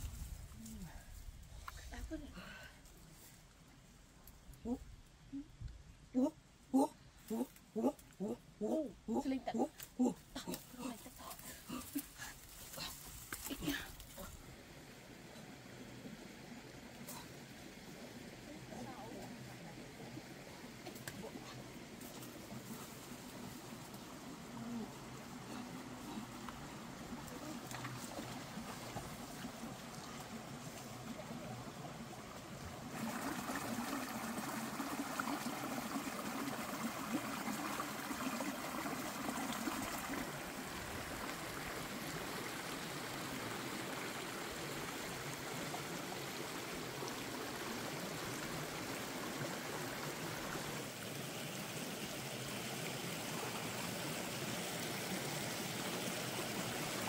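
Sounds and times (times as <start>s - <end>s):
stream running over rocks: 7.2s - 57.0s.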